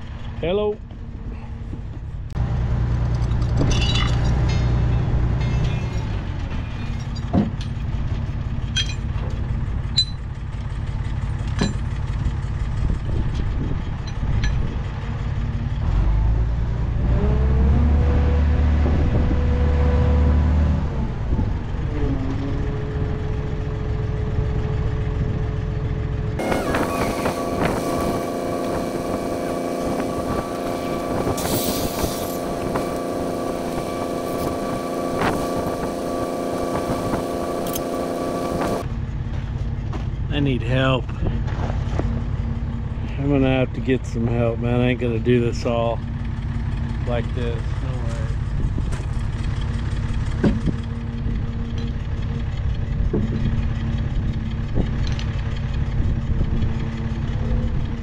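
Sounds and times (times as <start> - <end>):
crane engine running: 0.0 - 58.0.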